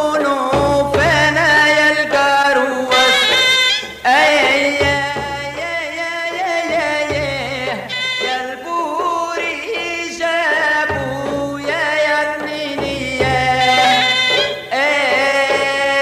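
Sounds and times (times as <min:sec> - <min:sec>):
folk singing voice: 0:00.0 - 0:16.0.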